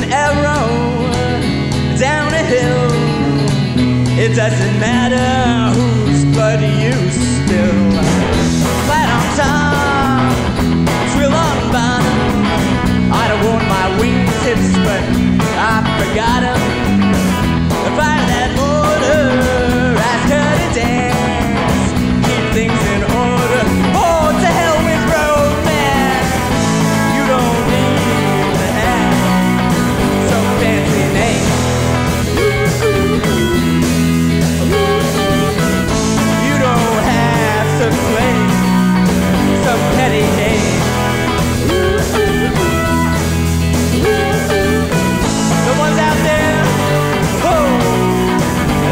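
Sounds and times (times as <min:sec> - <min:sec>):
bass guitar: 0:00.0 - 0:48.9
electric guitar lead with bends: 0:00.0 - 0:48.9
live rock band playing: 0:00.0 - 0:48.9
steady drum beat: 0:00.0 - 0:48.9.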